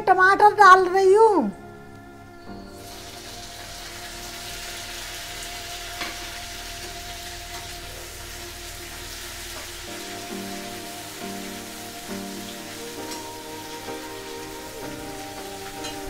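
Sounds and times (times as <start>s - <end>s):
tomatoes sizzling in hot fat: 2.6s - 16.0s.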